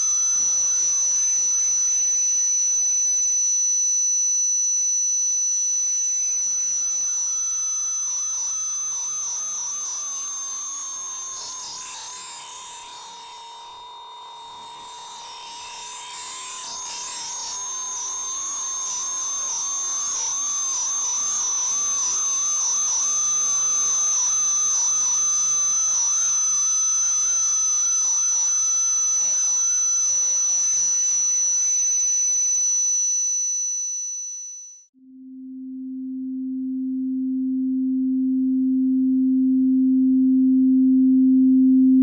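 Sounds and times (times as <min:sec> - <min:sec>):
high whistle-like tones: 0:00.0 - 0:34.9.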